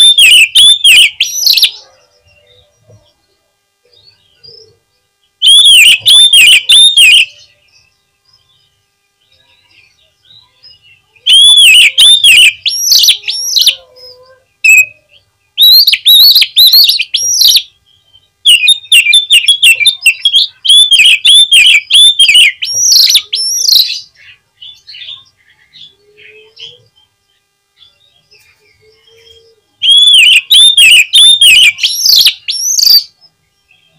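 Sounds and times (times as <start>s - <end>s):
bird singing whistled notes: 0.0s - 2.7s, 5.4s - 27.1s, 27.8s - 33.9s.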